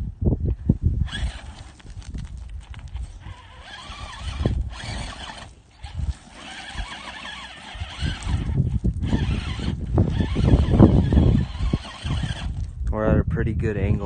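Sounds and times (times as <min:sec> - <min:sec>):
electric motor and gearbox whine: 0:01.0 - 0:12.8.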